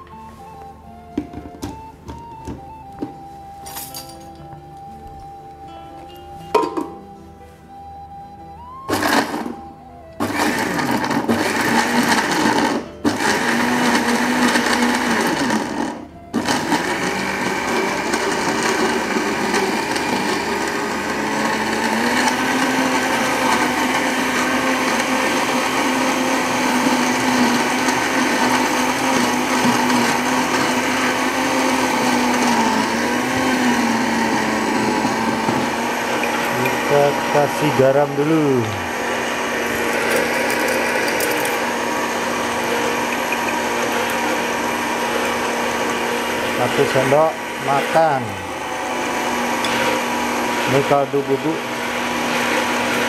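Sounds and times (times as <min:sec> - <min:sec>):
electric blender grinding: 0:08.9 - 0:53.0.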